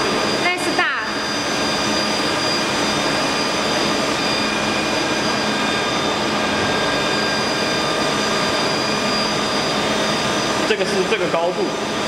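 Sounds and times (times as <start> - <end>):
constant whining tones: 0.0 - 12.0
cooling fans rushing: 0.0 - 12.0.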